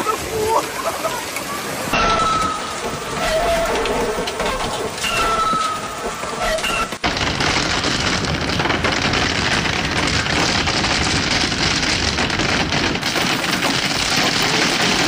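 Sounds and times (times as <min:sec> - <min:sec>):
hail clattering on cars and ground: 0:00.0 - 0:15.0.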